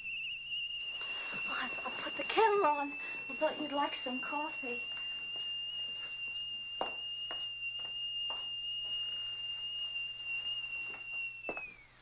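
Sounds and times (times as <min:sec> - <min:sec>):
kettle whistling: 0:00.0 - 0:12.0.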